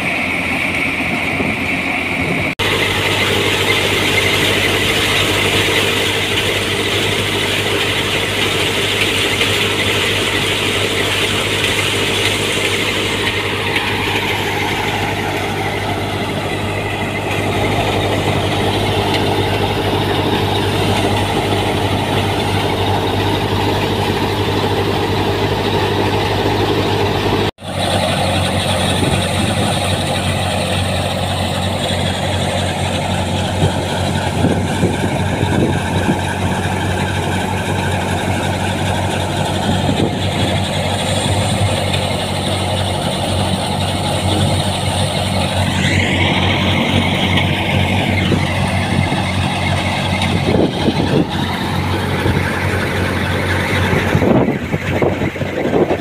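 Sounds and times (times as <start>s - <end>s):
thresher machinery drone: 0.0s - 56.0s
tractor engine: 0.0s - 56.0s.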